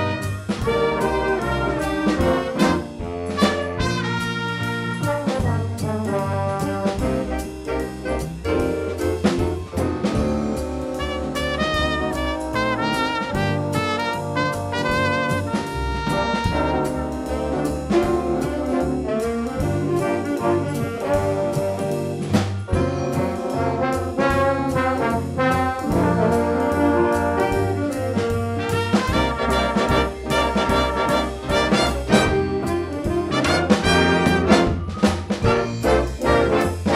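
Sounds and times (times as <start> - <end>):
percussion: 0.0 - 36.9
trumpets and trombones: 0.0 - 36.9.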